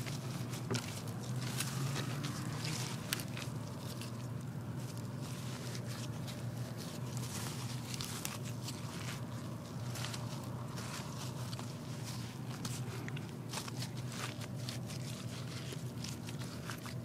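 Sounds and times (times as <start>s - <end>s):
soil crunching and scraping: 0.0s - 17.0s
steady low hum: 0.0s - 17.0s.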